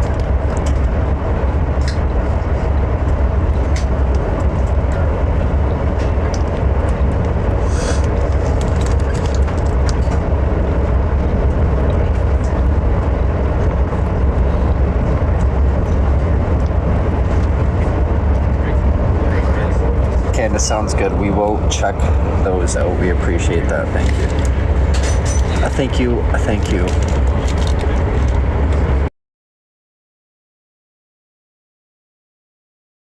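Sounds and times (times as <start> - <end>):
vehicle rumble from inside: 0.0 - 29.1.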